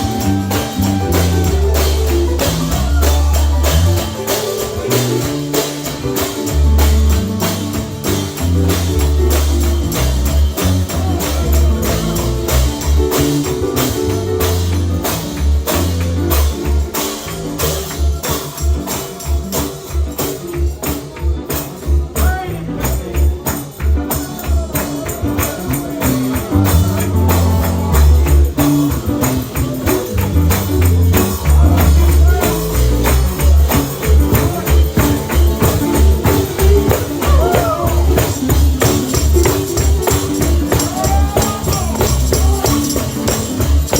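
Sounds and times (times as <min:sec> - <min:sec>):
people singing: 0:00.0 - 0:08.1, 0:09.4 - 0:43.9
gospel band music: 0:00.0 - 0:43.9
tambourine percussion: 0:00.0 - 0:43.9.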